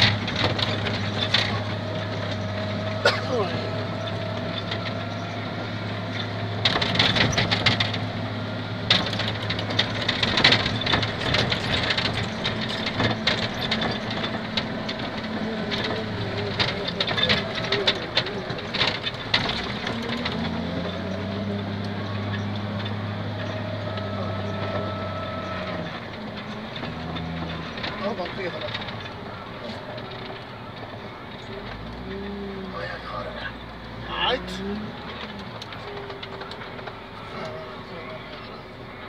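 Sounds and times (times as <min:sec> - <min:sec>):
diesel engine running: 0:00.0 - 0:39.0
rattling and knocking: 0:00.0 - 0:39.0.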